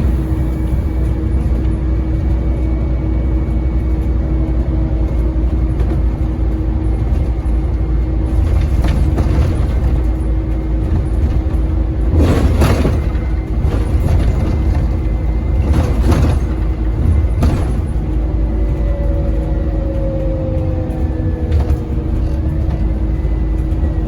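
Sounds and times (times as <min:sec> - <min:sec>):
diesel bus engine rumble: 0:00.0 - 0:24.0.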